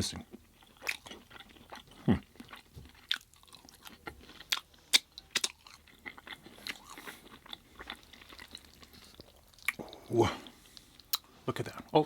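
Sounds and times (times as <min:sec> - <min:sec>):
chewing crunchy food: 0:00.1 - 0:12.0.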